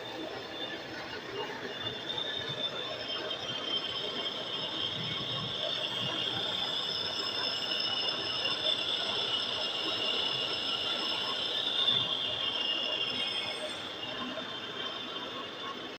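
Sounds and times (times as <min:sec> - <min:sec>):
lathe machine running: 0:00.1 - 0:15.9
lathe tool squealing: 0:00.1 - 0:15.9.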